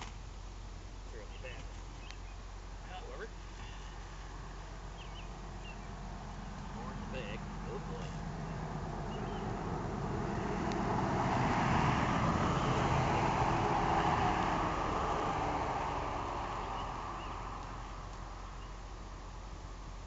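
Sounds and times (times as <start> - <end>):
vehicle driving past: 3.4 - 19.8.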